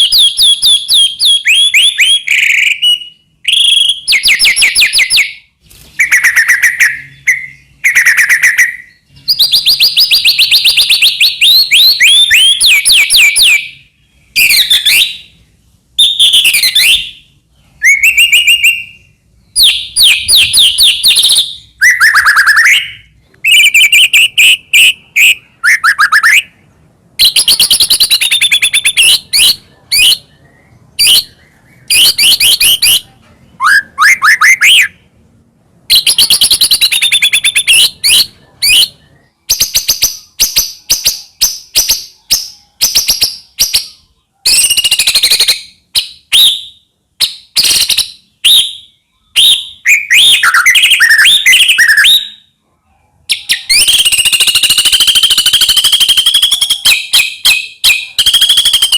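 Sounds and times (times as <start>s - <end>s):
bird singing loudly: 0.0s - 35.1s, 35.9s - 52.5s, 53.3s - 58.9s.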